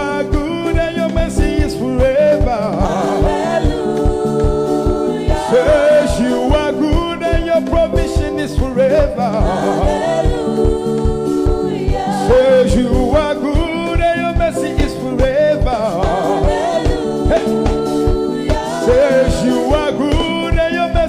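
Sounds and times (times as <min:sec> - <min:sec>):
band playing: 0:00.0 - 0:21.0
steady drum beat: 0:00.0 - 0:21.0
voices singing: 0:00.0 - 0:21.0.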